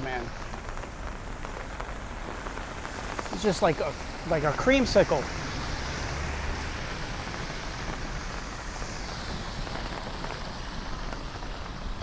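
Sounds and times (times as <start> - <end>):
rain falling: 0.0 - 12.0
traffic passing: 0.0 - 12.0.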